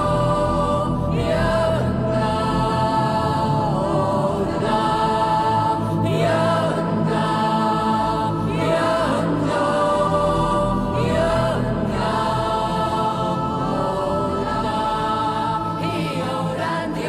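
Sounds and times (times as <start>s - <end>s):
choral music: 0.0s - 17.0s.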